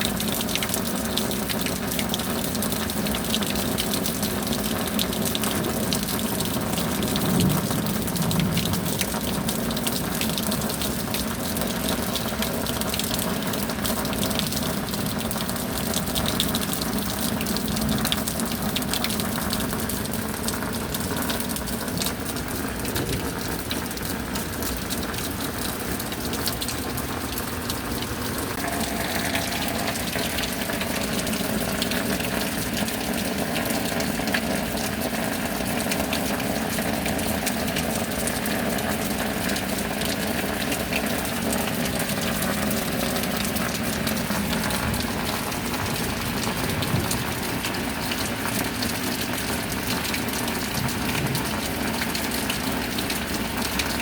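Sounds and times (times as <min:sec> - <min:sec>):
rain pattering: 0:00.0 - 0:54.0
water gushing: 0:00.0 - 0:54.0.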